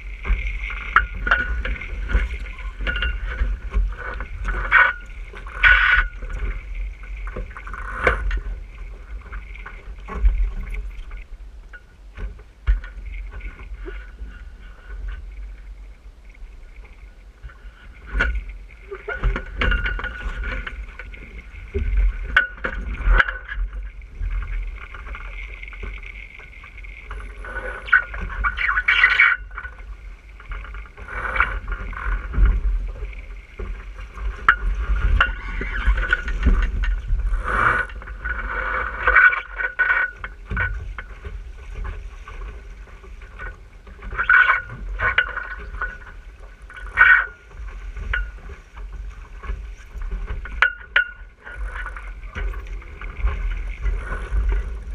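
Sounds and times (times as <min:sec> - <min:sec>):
knocks and taps from boat: 0:00.0 - 0:15.9, 0:16.7 - 0:54.9
water splashing against hull: 0:00.0 - 0:54.9
wind rumble on microphone: 0:00.0 - 0:54.9.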